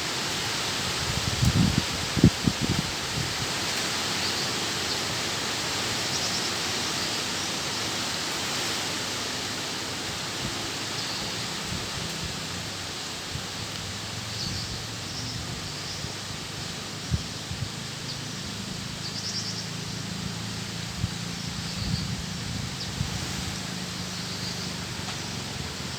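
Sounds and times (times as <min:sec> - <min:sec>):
wind through trees: 0:00.0 - 0:25.9.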